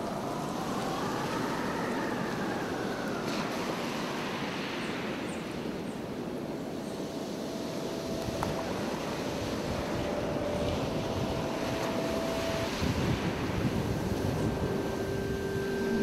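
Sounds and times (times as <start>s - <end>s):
faint wind whistling: 0.0s - 16.0s
gusty blizzard wind: 0.0s - 16.0s.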